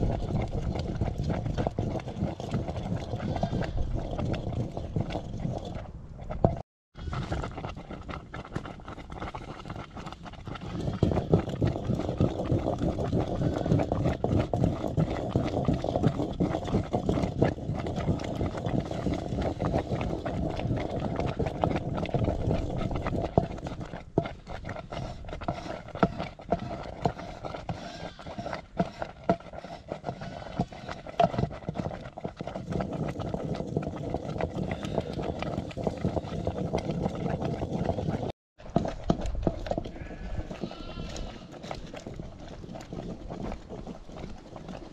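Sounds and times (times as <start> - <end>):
hooves clattering on ground: 0.0 - 44.9.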